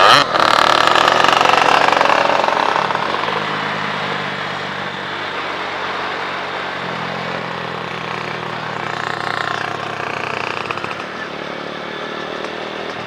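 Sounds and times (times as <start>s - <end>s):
motorcycle engines humming: 0.0s - 13.0s.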